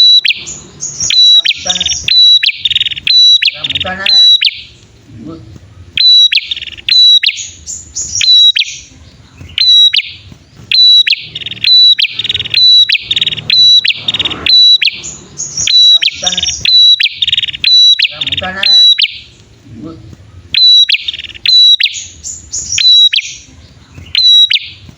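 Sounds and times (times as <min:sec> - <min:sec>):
bird rattling trills: 0:00.0 - 0:05.1, 0:05.7 - 0:24.9
birds calling with high notes: 0:00.0 - 0:24.9.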